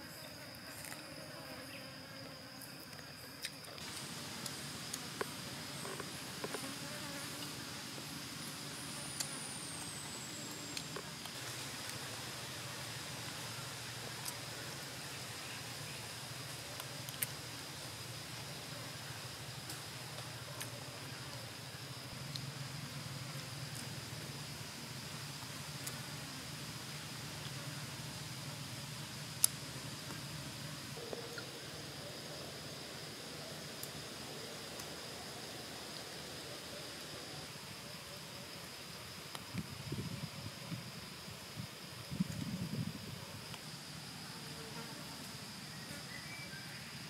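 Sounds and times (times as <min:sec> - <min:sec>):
fly droning: 0:00.0 - 0:38.5, 0:42.6 - 0:47.0
high insect hum: 0:00.0 - 0:47.0.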